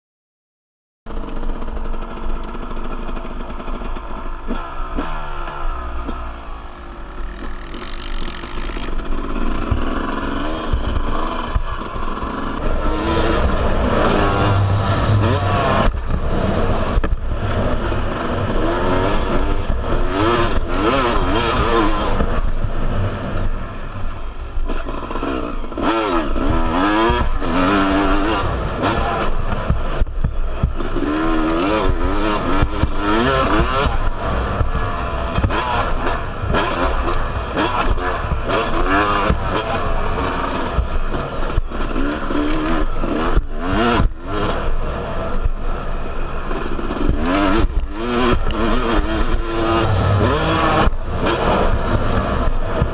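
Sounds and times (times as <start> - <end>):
motocross engine revving: 1.1 - 52.9.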